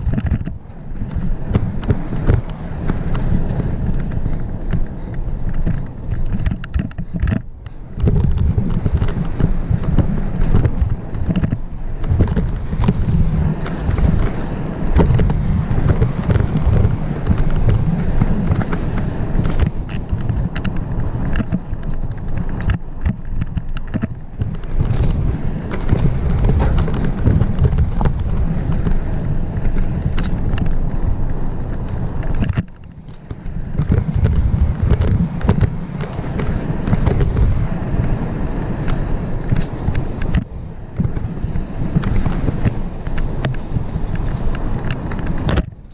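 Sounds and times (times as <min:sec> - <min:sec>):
bike knocking and rattling: 0:00.0 - 0:45.9
wind buffeting microphone: 0:00.0 - 0:45.9.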